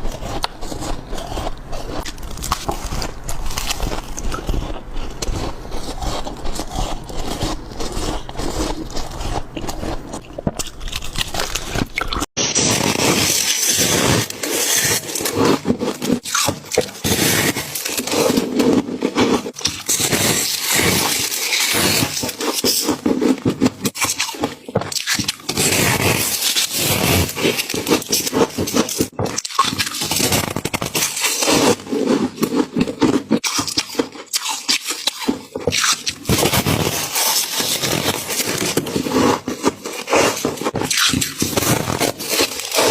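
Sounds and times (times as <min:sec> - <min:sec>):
freezer frost scraping and crunching: 0:00.0 - 0:42.9.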